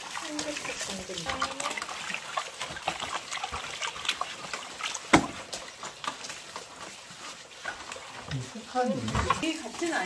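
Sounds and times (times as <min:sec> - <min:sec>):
containers knocking and clinking: 0:00.0 - 0:10.0
water splashing: 0:00.0 - 0:10.0.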